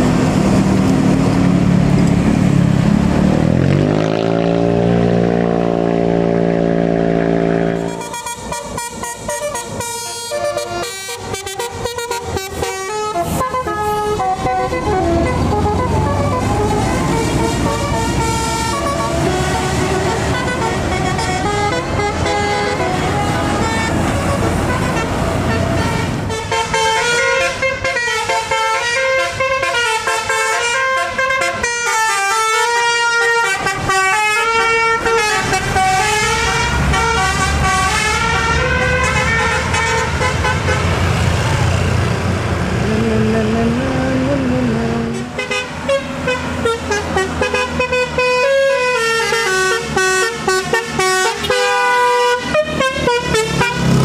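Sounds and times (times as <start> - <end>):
bus engine rumble: 0.0 - 54.0
musical air horns playing tunes: 5.9 - 41.0, 45.1 - 54.0.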